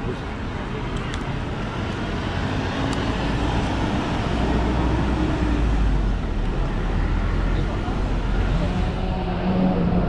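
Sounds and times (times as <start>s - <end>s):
outdoor street noise: 0.0s - 10.0s.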